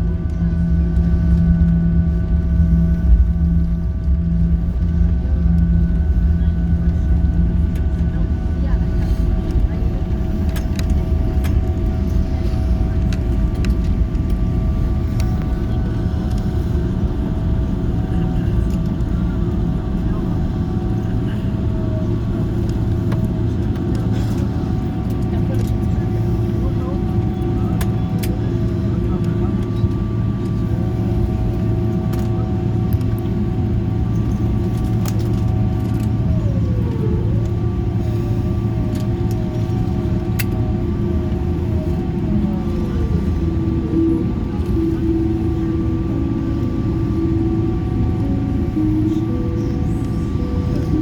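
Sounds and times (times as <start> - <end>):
aircraft cabin engine rumble: 0.0 - 51.0.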